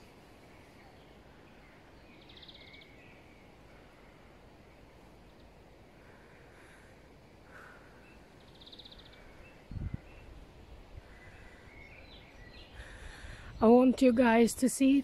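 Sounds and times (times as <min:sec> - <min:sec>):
birds chirping and trilling: 0:00.4 - 0:15.0.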